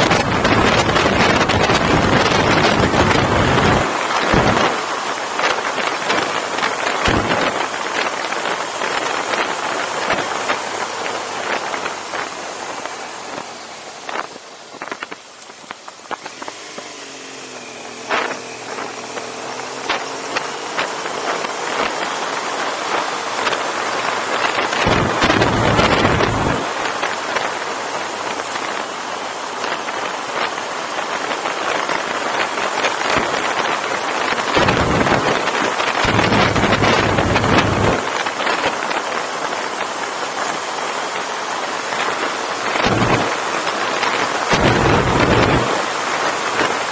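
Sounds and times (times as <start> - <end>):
gust buffeting microphone: 0.0 - 16.8, 17.6 - 46.9
motorcycle engine: 0.0 - 46.9
wind rushing over microphone: 0.0 - 46.9.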